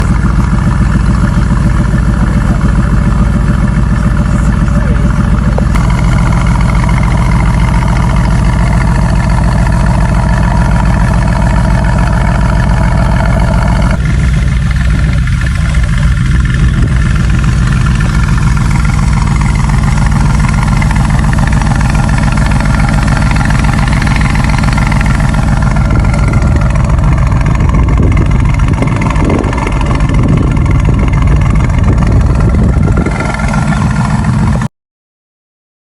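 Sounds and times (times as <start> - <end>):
car engine idling: 0.0 - 34.7.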